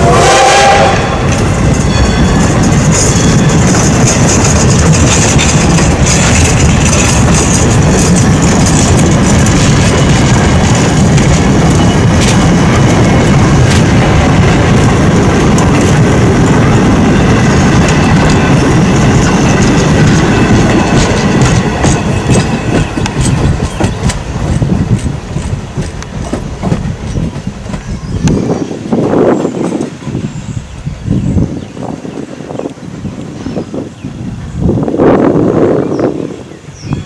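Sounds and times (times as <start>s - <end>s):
train wheels clacking over rail joints: 0.3s - 30.1s.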